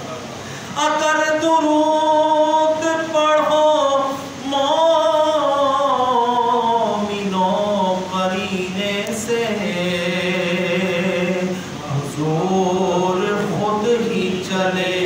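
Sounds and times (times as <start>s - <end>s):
man singing unaccompanied: 0.7s - 15.0s.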